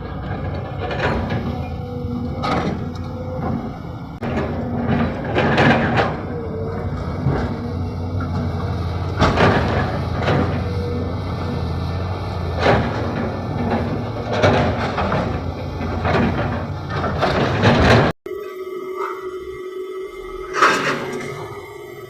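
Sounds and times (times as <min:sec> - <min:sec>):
backhoe diesel engine running: 0:00.0 - 0:18.2
machinery knocks and clanks: 0:00.0 - 0:18.2.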